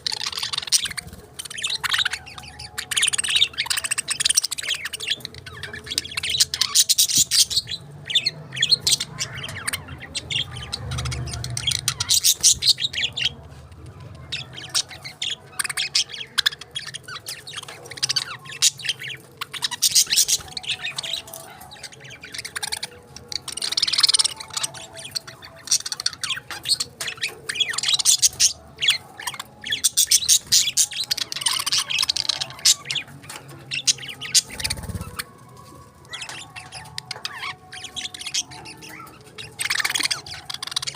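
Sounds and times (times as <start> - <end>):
budgerigars chirping and warbling: 0.0 - 40.9.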